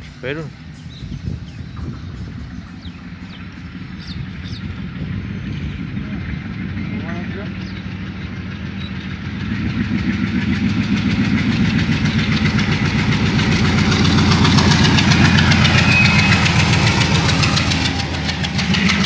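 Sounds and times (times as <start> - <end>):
diesel locomotive chugging: 0.0 - 19.0.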